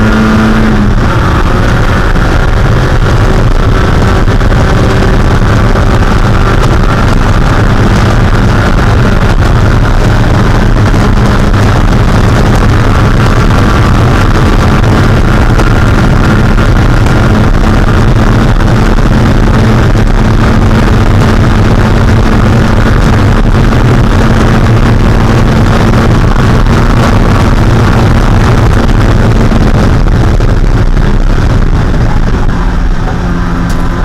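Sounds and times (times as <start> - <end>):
racing car engine at high revs: 0.0 - 34.0.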